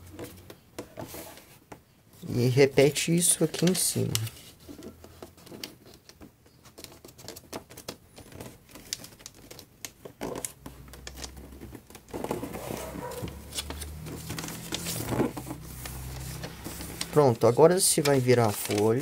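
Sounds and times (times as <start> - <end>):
paper rustling: 2.2 - 19.0
fingers creasing paper folds: 2.6 - 19.0.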